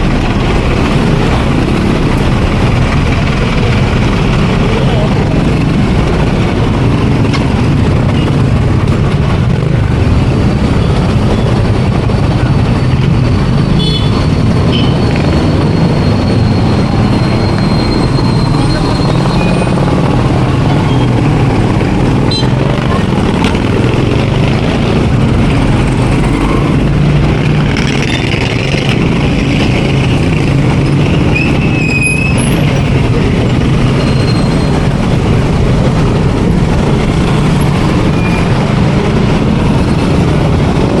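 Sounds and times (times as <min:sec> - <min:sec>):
indistinct voices: 0:00.0 - 0:41.0
street traffic: 0:00.0 - 0:41.0
vehicle engine humming: 0:00.0 - 0:41.0.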